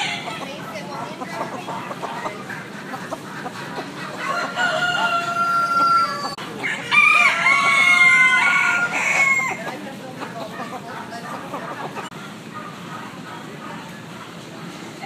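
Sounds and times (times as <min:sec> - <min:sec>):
roosters crowing: 0:00.0 - 0:13.0.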